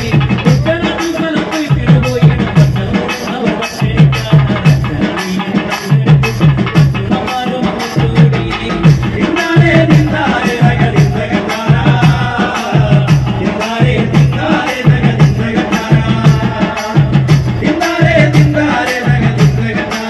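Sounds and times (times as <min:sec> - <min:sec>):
amplified drum beat: 0:00.0 - 0:20.0
man singing into a microphone: 0:00.0 - 0:20.0.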